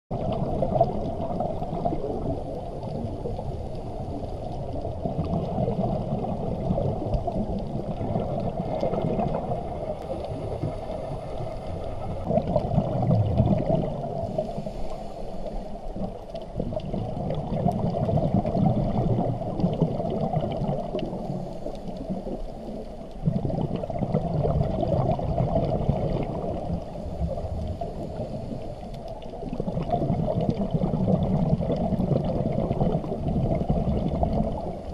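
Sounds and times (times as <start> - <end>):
underwater bubbles gurgling: 0.1 - 34.9.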